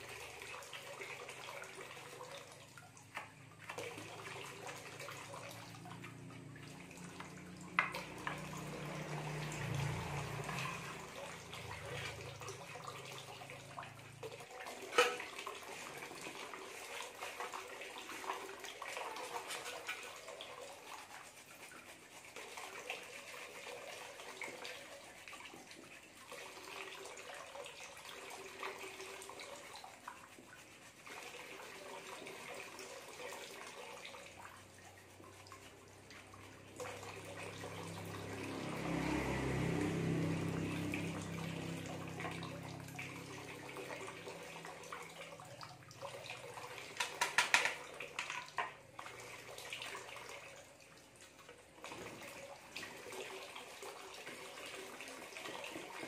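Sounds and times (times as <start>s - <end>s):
water pouring into metal basin: 0.0s - 56.0s.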